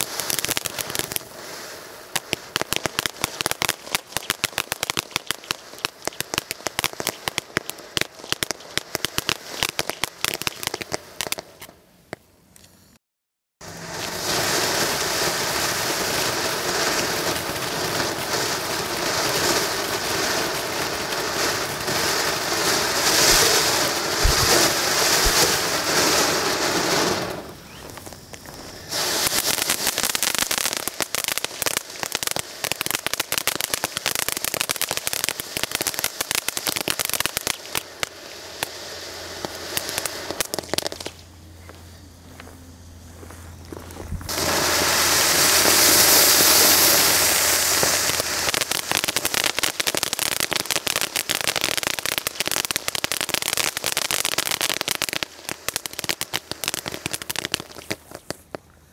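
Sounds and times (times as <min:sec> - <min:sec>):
firework fountain hissing: 0:00.0 - 0:12.2, 0:13.6 - 0:58.9
firework fountain crackling: 0:00.0 - 0:12.3, 0:13.6 - 0:58.9.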